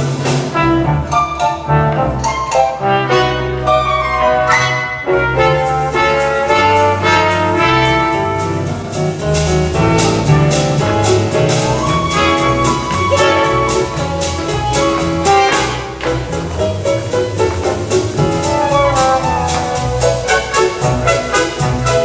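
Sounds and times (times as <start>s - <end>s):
orchestra playing jazzy dance music: 0.0s - 22.0s.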